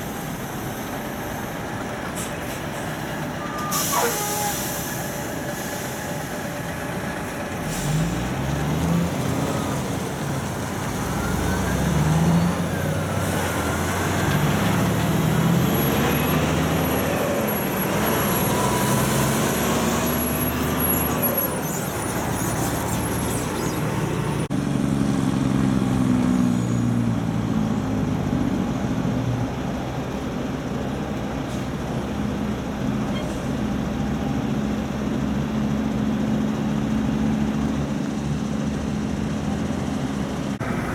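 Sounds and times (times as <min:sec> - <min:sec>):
diesel truck engines pulling away: 0:00.0 - 0:40.9.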